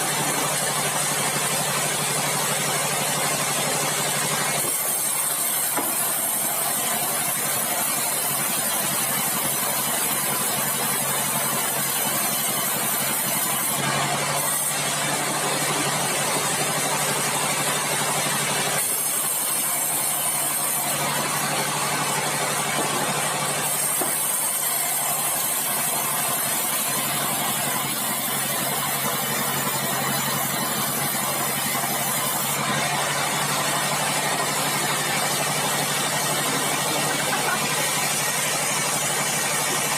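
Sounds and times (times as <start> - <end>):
bandsaw machine hum: 0.0 - 39.9.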